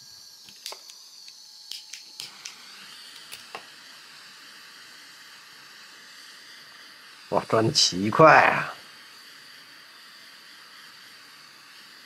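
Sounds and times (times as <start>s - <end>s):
small fan motor whining: 0.0s - 12.0s.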